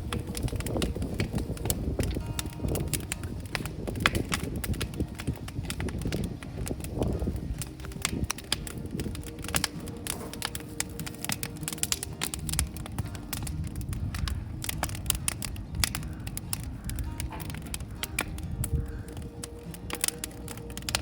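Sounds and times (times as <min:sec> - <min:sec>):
low rush of flame: 0:00.0 - 0:21.0
wood fire crackling and popping: 0:00.0 - 0:21.0.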